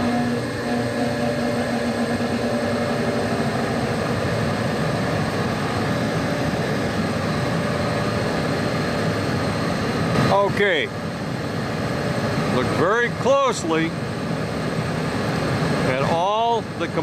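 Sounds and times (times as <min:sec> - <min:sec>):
gas furnace humming: 0:00.0 - 0:17.0.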